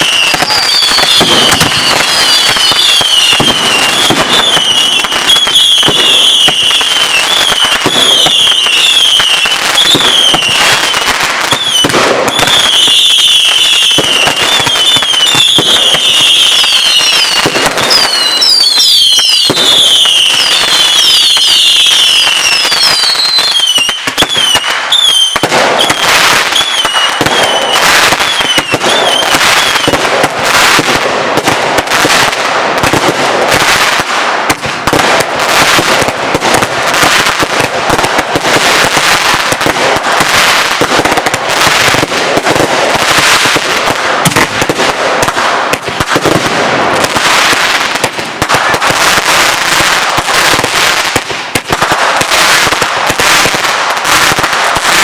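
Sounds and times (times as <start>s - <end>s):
fireworks cracking and banging: 0.0s - 55.0s
whistling fireworks shrieking: 0.0s - 55.0s.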